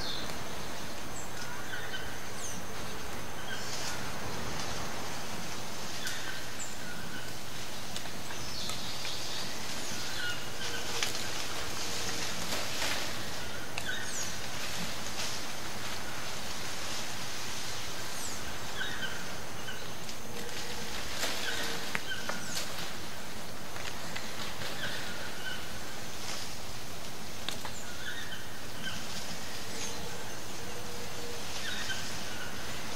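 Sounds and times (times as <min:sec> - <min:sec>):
steady rainforest hiss: 0:00.0 - 0:32.9.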